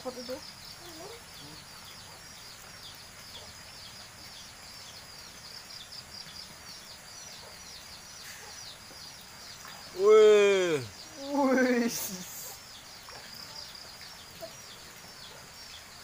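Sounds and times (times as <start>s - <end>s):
outdoor background hiss: 0.0s - 16.0s
small birds chirping: 0.0s - 16.0s.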